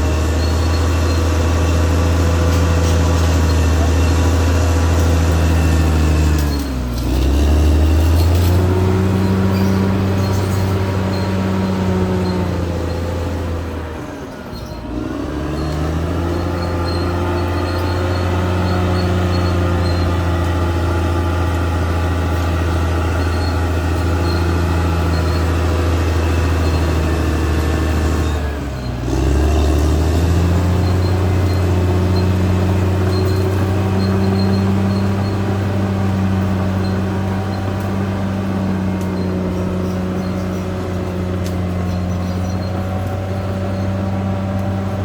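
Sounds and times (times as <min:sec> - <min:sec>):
bulldozer diesel engine under load: 0:00.0 - 0:45.0.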